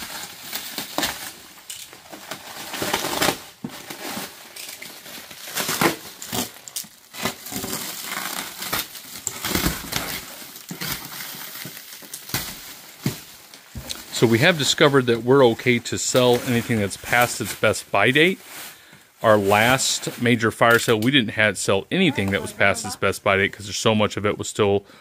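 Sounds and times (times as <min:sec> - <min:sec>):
plastic wrap crinkling and ripping: 0:00.0 - 0:21.2.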